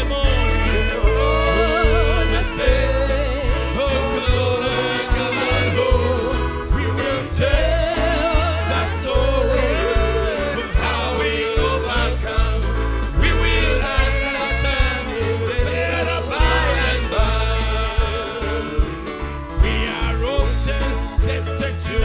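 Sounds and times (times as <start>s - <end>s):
vibrato melody: 0.0s - 20.9s
gospel song with heavy bass: 0.0s - 22.0s.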